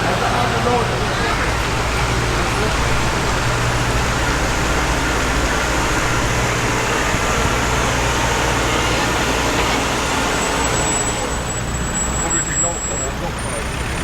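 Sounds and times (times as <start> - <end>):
road noise: 0.0 - 14.0
truck engine running: 0.0 - 14.0.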